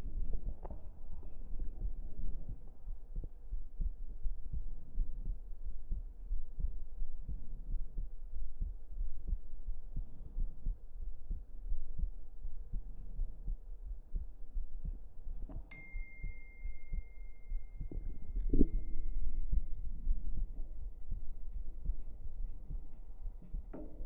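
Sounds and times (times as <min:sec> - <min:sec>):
human heartbeat: 0:00.0 - 0:24.0
low rumble: 0:00.0 - 0:24.0.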